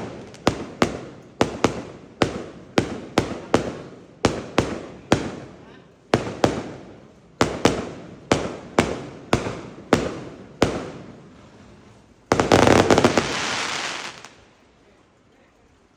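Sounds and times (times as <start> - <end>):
firework bangs: 0.0 - 14.4
firework crackling: 0.0 - 14.9.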